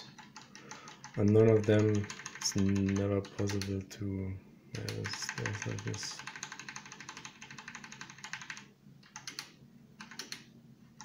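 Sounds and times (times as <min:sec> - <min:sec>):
keyboard and mouse clicks: 0:00.0 - 0:03.8, 0:04.8 - 0:10.5.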